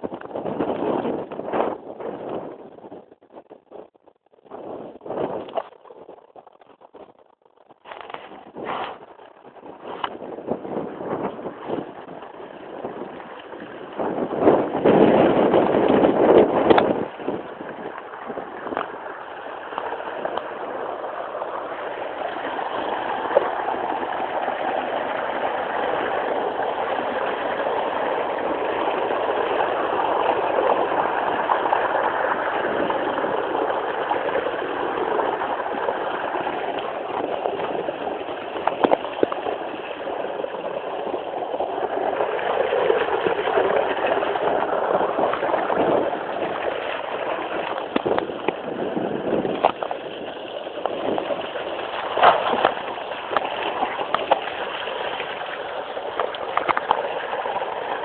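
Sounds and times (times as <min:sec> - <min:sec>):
rain and running water: 0:00.0 - 0:58.0.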